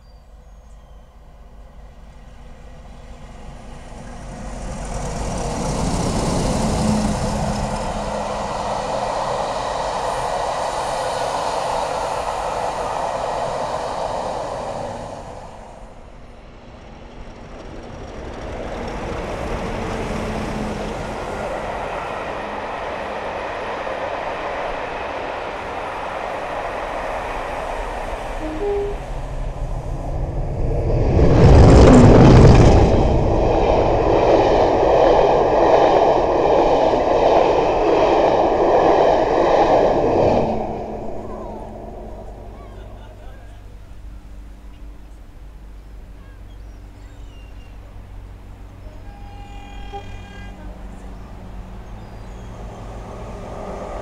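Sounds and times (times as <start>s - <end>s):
diesel train passing: 0.0s - 54.0s.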